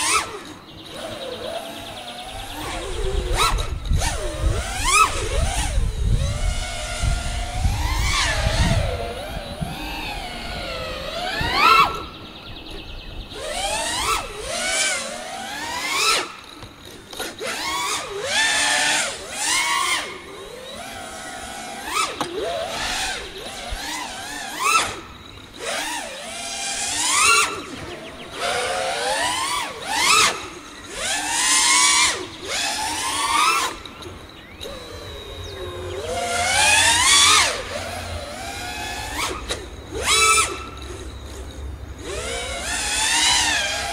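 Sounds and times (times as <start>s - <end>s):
quadcopter motors whining: 0.0s - 43.9s.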